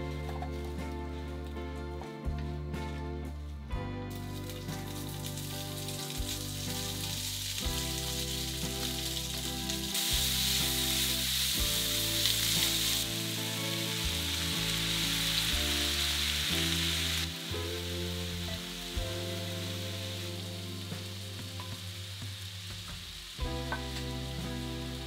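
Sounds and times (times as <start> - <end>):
background music: 0.0 - 25.0
food sizzling in a frying pan: 4.2 - 25.0.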